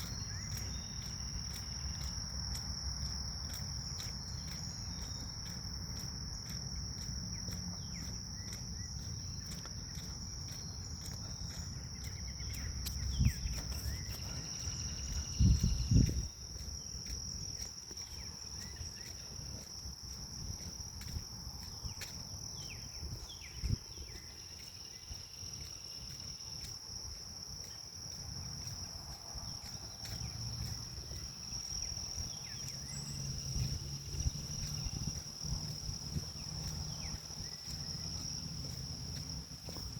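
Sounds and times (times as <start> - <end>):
insects trilling: 0.0 - 39.9
wind rumble on microphone: 4.0 - 25.7, 27.5 - 39.9.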